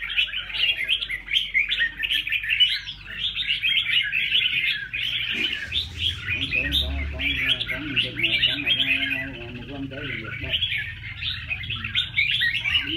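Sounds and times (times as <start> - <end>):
songbirds chirping: 0.0 - 12.9.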